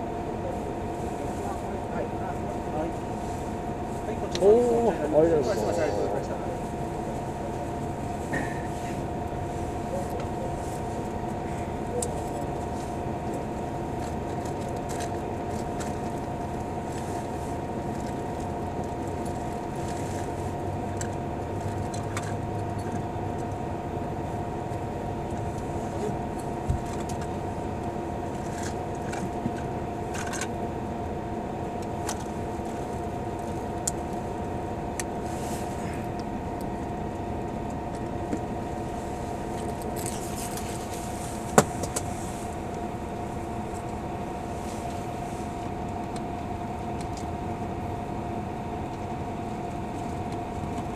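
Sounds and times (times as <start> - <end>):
bus cabin hum: 0.0 - 50.9
mid-pitched whine: 0.0 - 50.9.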